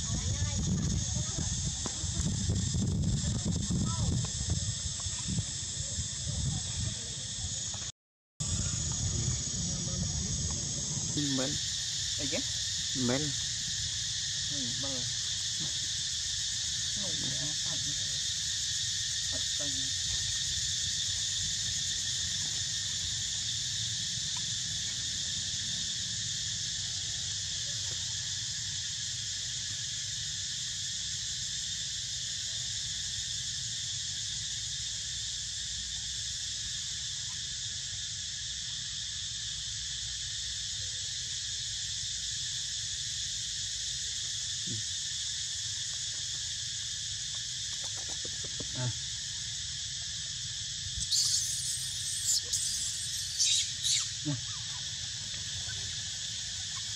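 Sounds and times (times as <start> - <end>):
insects buzzing: 0.0 - 56.9.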